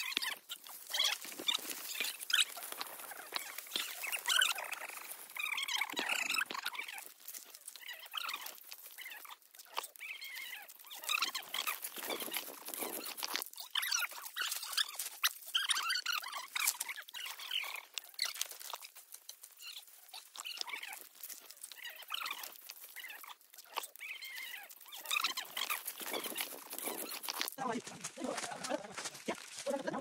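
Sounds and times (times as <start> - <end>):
dry leaves and twigs crackling: 0.0 - 30.0.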